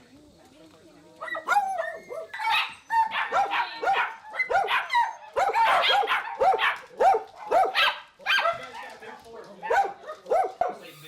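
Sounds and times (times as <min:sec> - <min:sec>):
dogs barking: 0:01.3 - 0:10.9.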